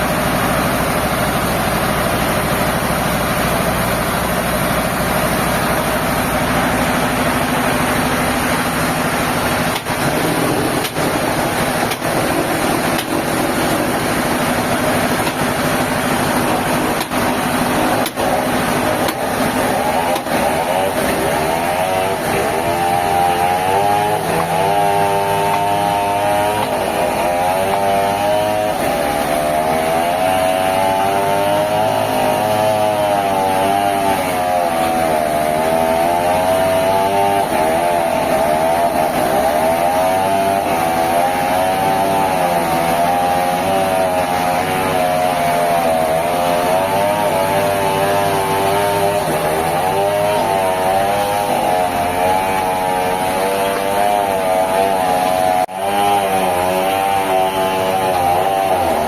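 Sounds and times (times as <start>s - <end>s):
sawmill machinery motor running: 0.0s - 59.0s.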